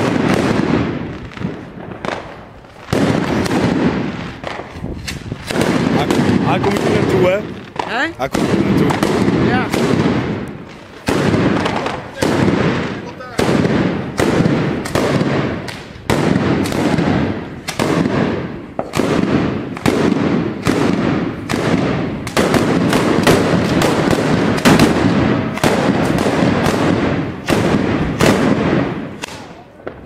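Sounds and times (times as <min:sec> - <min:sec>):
firework bangs and crackling: 0:00.0 - 0:30.0.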